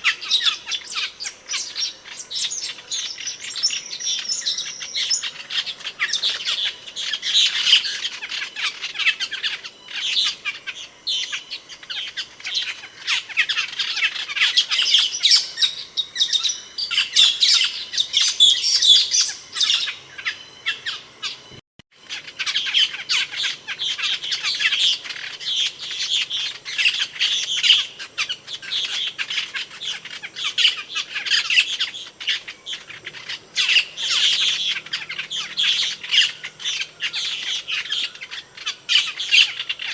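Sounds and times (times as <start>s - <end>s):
starling calling with squeaky chirps: 0.0s - 39.9s.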